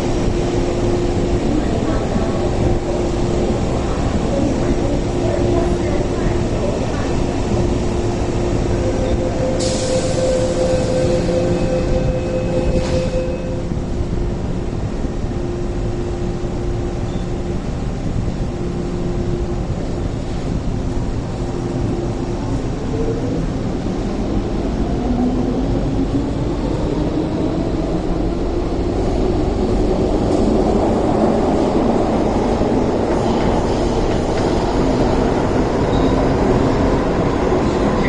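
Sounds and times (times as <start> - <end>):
low rumble of running train: 0.0 - 38.0
standing train hum: 0.0 - 38.0.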